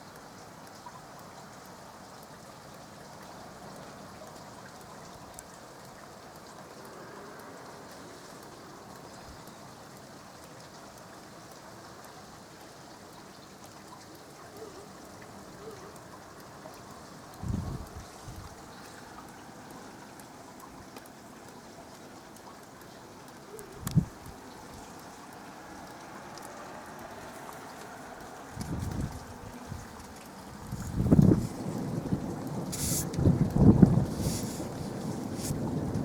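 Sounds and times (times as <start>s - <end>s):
rain falling: 0.0s - 36.0s.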